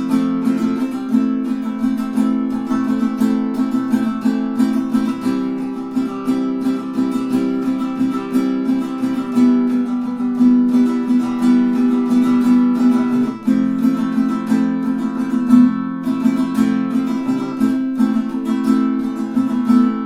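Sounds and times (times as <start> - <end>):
ukulele strummed and picked: 0.0 - 20.0.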